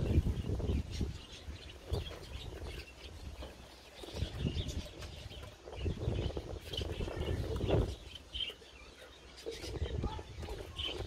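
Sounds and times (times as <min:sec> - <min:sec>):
aviary birds chirping: 0:00.0 - 0:11.0.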